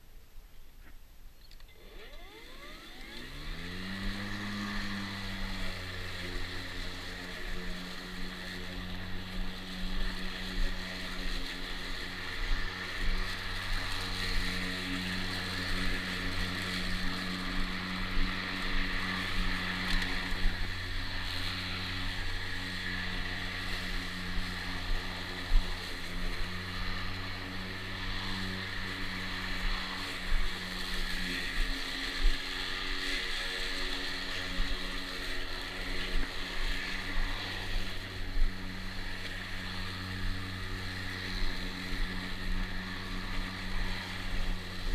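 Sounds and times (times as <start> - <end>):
electric lawn mower running: 1.5 - 44.9.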